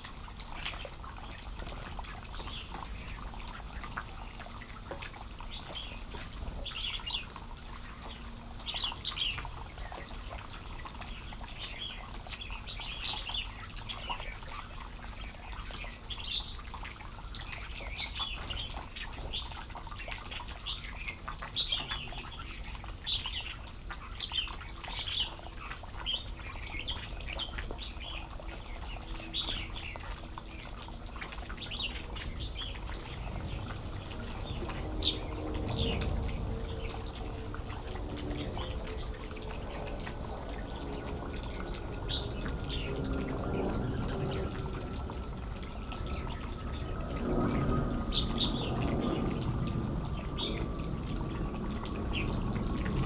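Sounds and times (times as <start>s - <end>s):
outdoor background noise: 0.0s - 53.0s
faint low mechanical drone: 0.1s - 53.0s.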